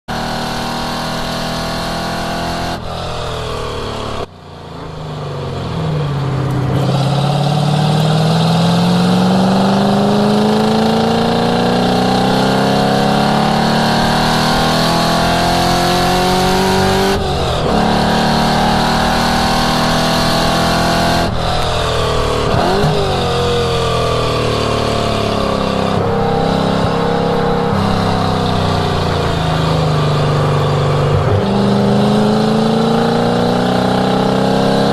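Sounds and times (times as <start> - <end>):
car engine running hard: 0.1 - 34.9.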